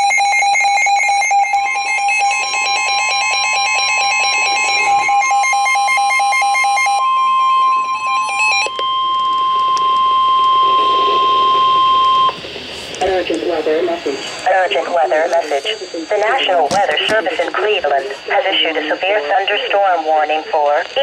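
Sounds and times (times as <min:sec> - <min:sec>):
long steady alarm tone: 0:00.0 - 0:20.5.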